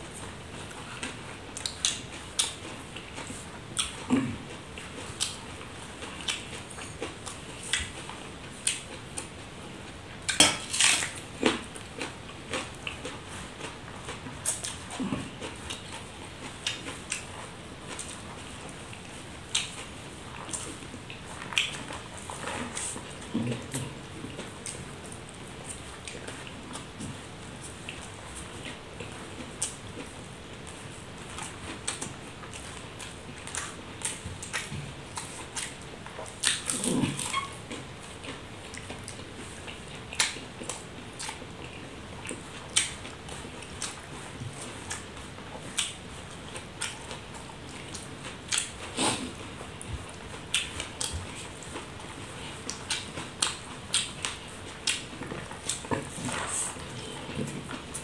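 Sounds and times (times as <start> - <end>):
man chewing with wet smacks: 0.0 - 58.0
steady low hiss: 0.0 - 58.0.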